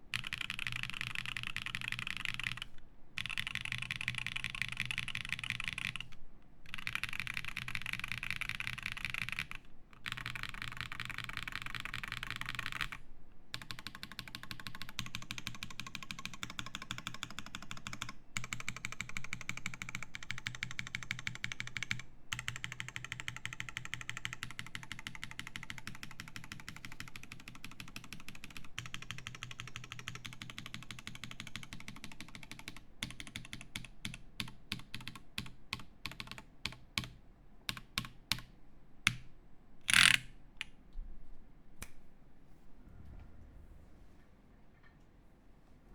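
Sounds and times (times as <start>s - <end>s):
mechanical keyboard typing: 0.1s - 38.5s, 39.9s - 40.3s.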